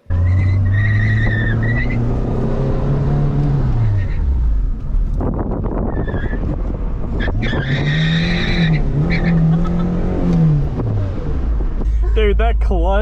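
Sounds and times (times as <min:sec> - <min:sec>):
car engine revving: 0:00.0 - 0:13.0
tires squealing: 0:00.1 - 0:04.7, 0:05.3 - 0:11.6.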